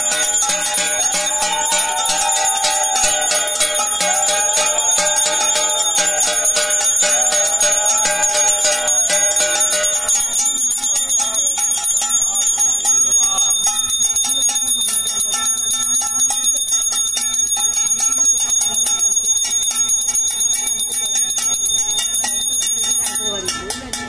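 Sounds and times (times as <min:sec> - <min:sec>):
hand bell ringing rapidly: 0:00.0 - 0:24.0.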